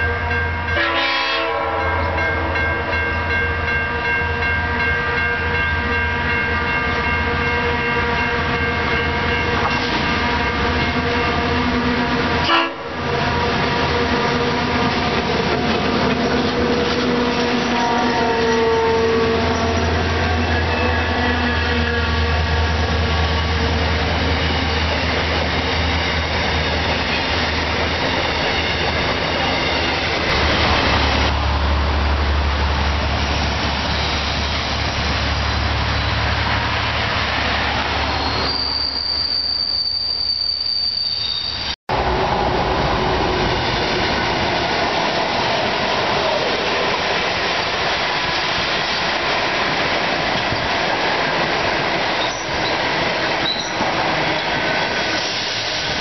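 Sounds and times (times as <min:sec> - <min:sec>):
passenger train carriages rolling past: 0:00.0 - 0:56.0
freight train wagons rolling past: 0:01.7 - 0:56.0.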